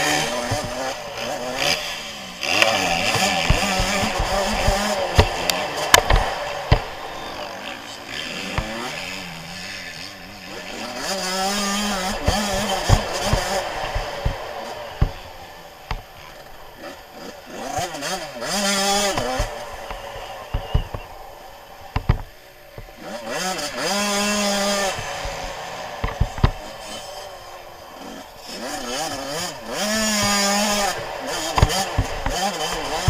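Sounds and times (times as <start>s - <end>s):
two-stroke engine revving: 0.0s - 33.0s.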